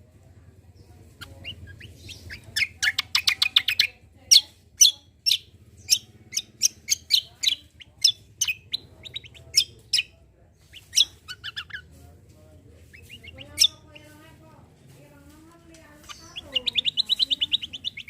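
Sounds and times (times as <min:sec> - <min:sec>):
songbird singing high chirps: 0:00.8 - 0:11.9, 0:12.8 - 0:14.2, 0:16.0 - 0:18.0.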